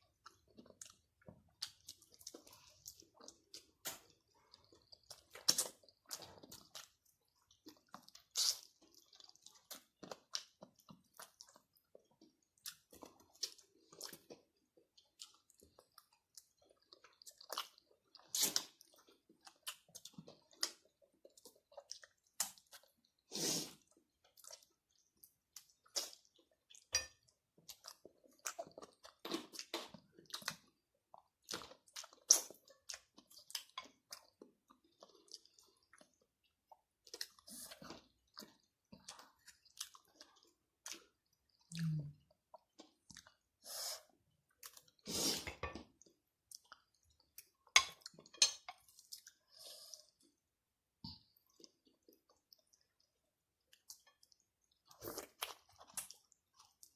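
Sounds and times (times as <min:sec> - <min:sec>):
person chewing and eating: 0:00.0 - 0:56.9.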